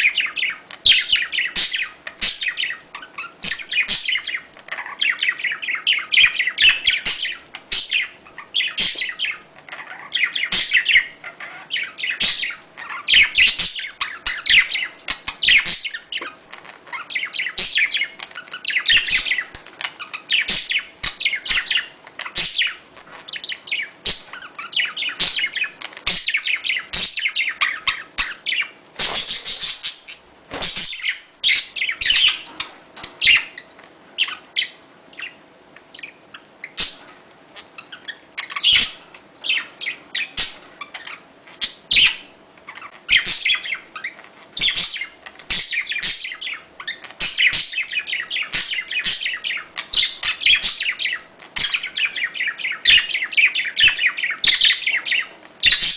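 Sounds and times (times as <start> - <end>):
budgerigars chattering and warbling: 0.0 - 55.9.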